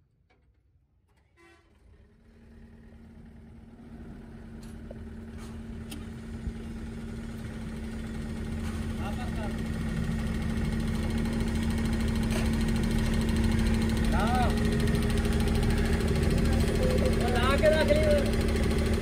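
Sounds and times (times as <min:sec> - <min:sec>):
diesel engine humming: 0:01.9 - 0:19.0.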